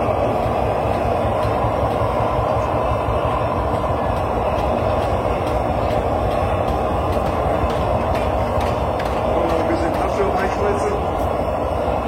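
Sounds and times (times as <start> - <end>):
blowtorch roaring hiss: 0.0 - 12.0.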